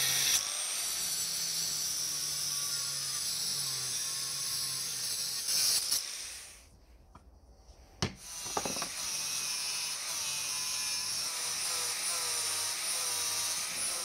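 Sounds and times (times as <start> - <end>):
angle grinder cutting metal: 0.0 - 6.6, 8.2 - 14.0.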